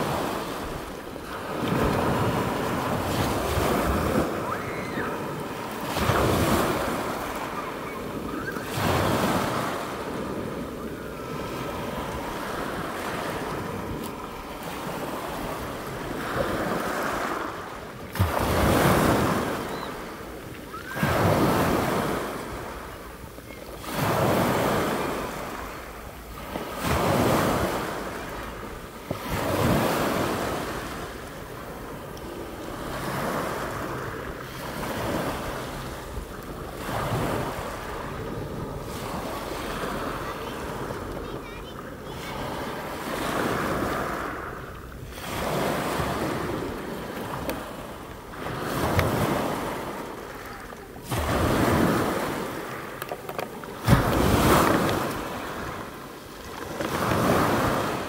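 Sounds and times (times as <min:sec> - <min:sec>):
waves on pebble beach: 0:00.0 - 0:58.0.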